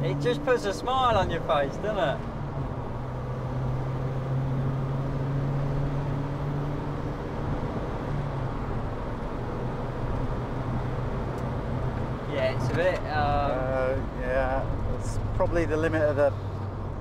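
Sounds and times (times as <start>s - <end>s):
car engine droning: 0.0s - 17.0s
road and wind noise: 0.0s - 17.0s.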